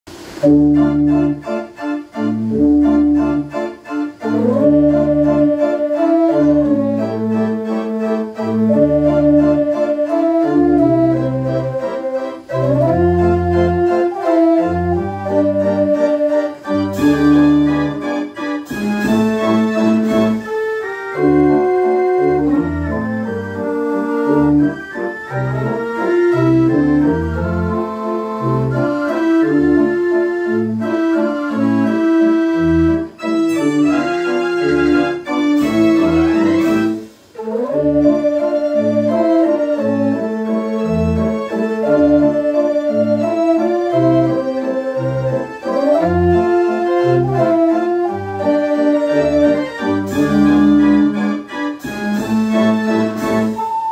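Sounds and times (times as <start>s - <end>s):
mechanical organ playing a tune: 0.4s - 53.9s.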